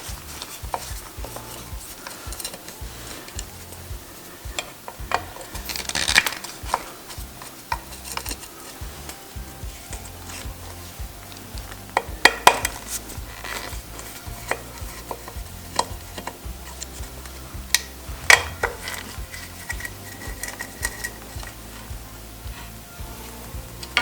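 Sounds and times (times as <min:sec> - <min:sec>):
metal tools clinking: 0:00.0 - 0:22.0.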